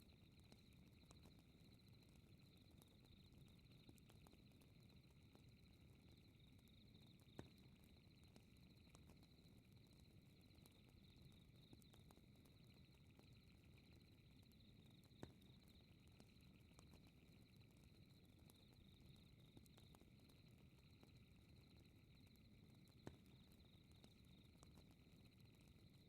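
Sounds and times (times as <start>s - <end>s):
crickets chirping: 0.0s - 26.0s
faint fireplace crackling: 0.0s - 26.0s.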